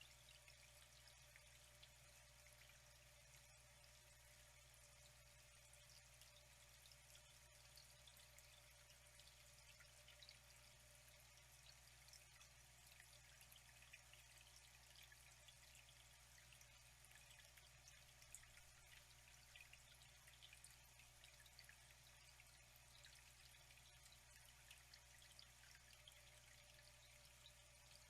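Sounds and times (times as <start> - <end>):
low steady hum: 0.0 - 28.0
water trickling and dripping: 0.0 - 28.0.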